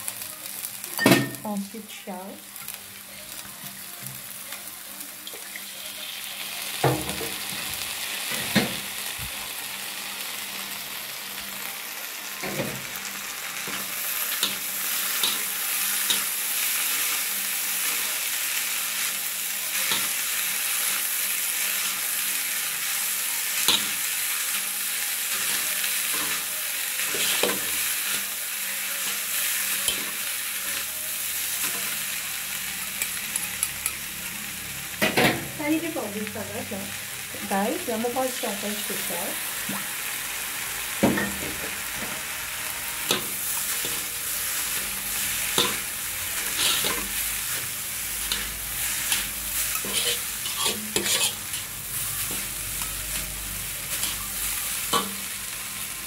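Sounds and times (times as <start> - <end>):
noodles sizzling in a wok: 0.0 - 56.0.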